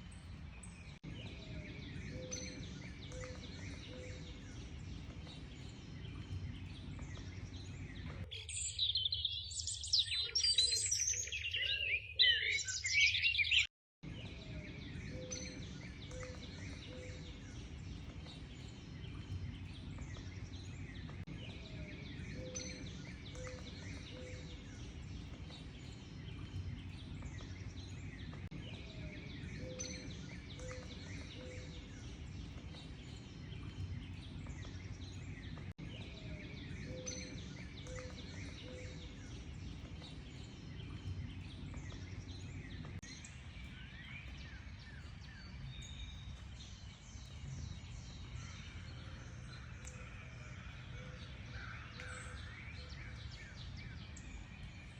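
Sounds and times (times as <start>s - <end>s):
distant birds chirping: 0.0s - 54.9s.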